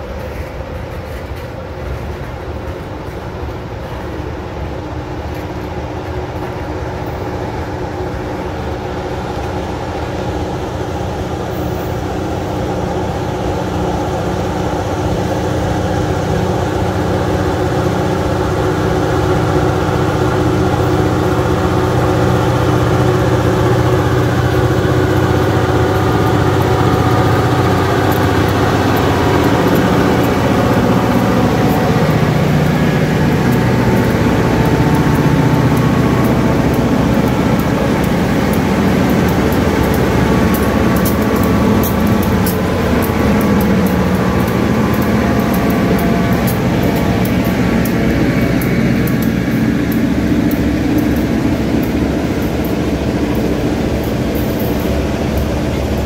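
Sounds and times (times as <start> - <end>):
diesel locomotive engine drone: 0.0 - 56.0
freight cars rolling on rails: 0.0 - 56.0.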